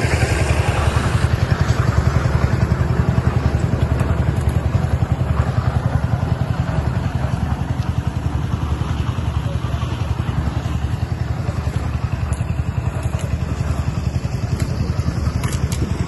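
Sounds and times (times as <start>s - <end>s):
engine running with low throb: 0.0s - 16.0s.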